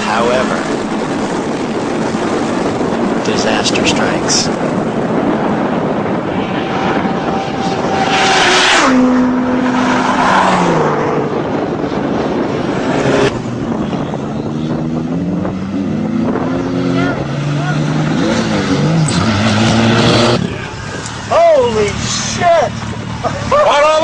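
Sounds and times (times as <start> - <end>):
engine running: 0.0 - 24.0
wind rush from moving vehicle: 0.0 - 24.0.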